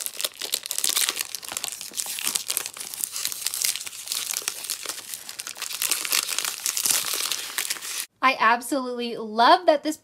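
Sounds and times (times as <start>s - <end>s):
cellophane wrap crinkling: 0.0s - 8.1s.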